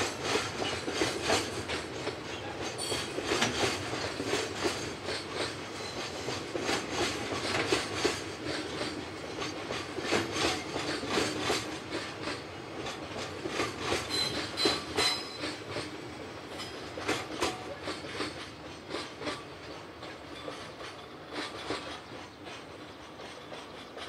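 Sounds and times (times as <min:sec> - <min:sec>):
diesel locomotive: 0:00.0 - 0:24.0
train wheels clattering over rail joints: 0:00.0 - 0:24.0.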